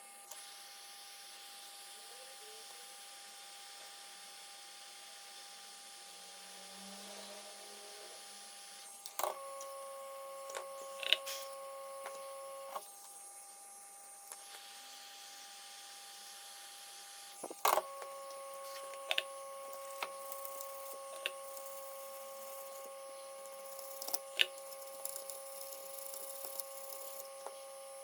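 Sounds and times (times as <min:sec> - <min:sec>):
electrical hum with high whine: 0:00.0 - 0:28.0.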